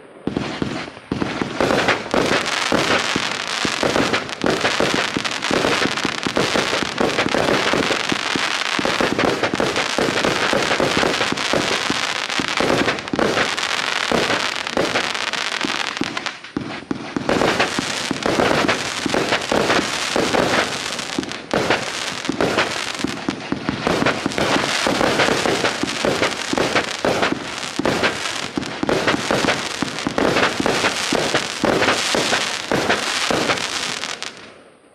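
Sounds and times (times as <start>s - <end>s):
firework barrage: 0.0s - 34.7s.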